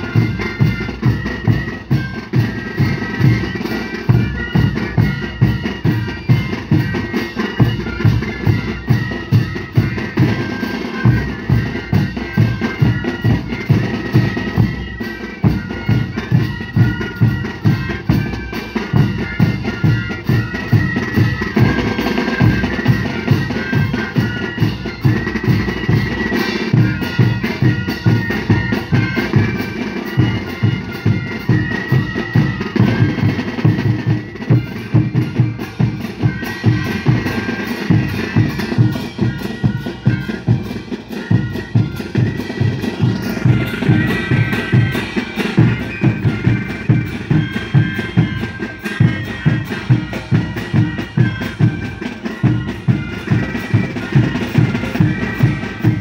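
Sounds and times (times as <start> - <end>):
drums and cymbals beating: 0.0 - 56.0
wooden flutes playing melody: 0.0 - 56.0.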